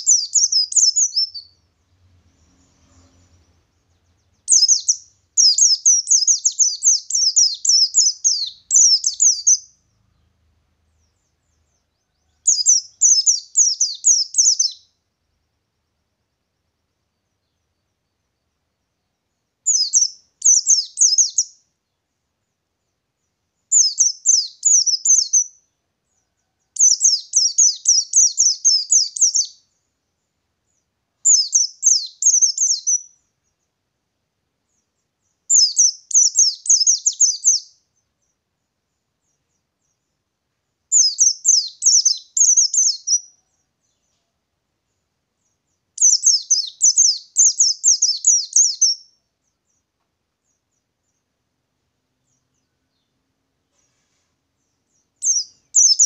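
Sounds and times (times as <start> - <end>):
bird twittering song: 0.0 - 33.8, 34.6 - 56.0.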